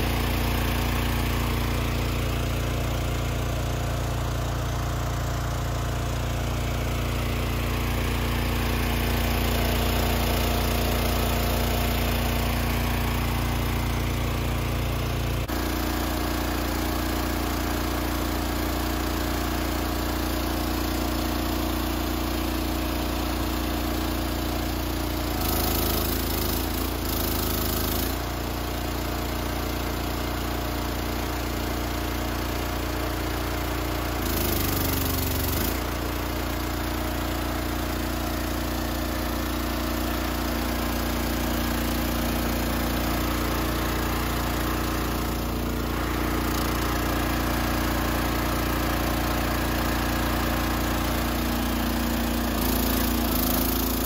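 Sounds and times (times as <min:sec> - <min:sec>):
small gas engine running: 0:00.0 - 0:54.0.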